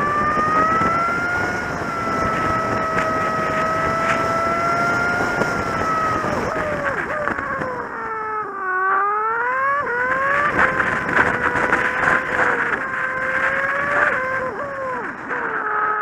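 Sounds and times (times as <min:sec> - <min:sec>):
motorcycle engine revving: 0:00.0 - 0:16.0
wind and road noise: 0:00.0 - 0:16.0.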